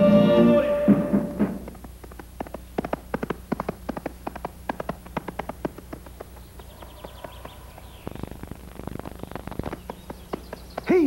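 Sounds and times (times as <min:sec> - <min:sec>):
horse hooves clopping: 0:01.0 - 0:11.0.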